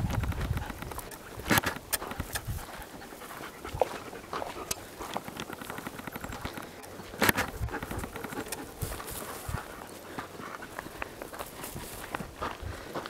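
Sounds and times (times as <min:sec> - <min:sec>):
footsteps on dirt trail: 0:00.0 - 0:13.0
dog panting: 0:00.3 - 0:12.0.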